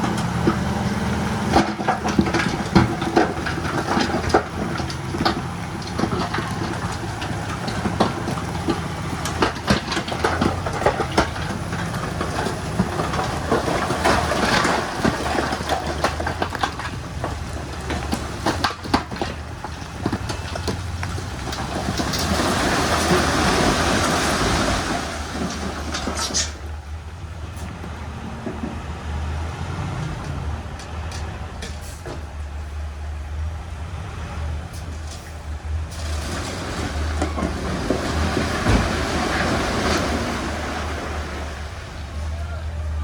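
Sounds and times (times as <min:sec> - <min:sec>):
metal clanks and rattles: 0:00.0 - 0:32.8, 0:34.7 - 0:40.9
heavy machinery engine rumble: 0:00.0 - 0:43.0.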